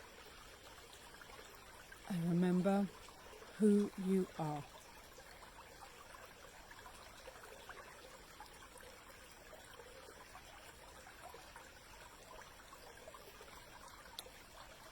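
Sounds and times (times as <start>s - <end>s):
brook trickling: 0.0s - 14.9s.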